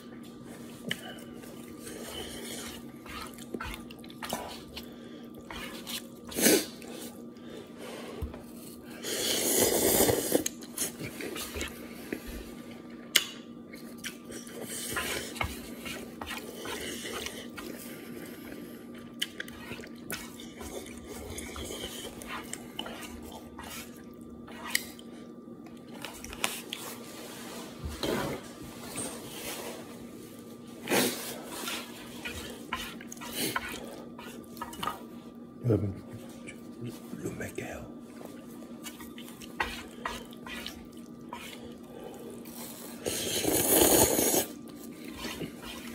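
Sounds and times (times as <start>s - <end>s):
faint steady hum: 0.0s - 45.9s
quiet chewing: 0.1s - 7.6s, 9.7s - 27.0s, 31.2s - 35.5s, 38.0s - 45.9s.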